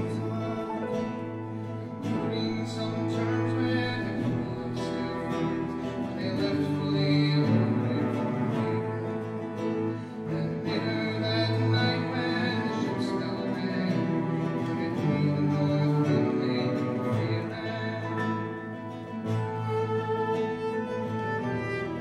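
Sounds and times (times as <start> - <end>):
acoustic guitar picking: 0.0 - 22.0
cello: 0.0 - 22.0
piano: 0.0 - 22.0.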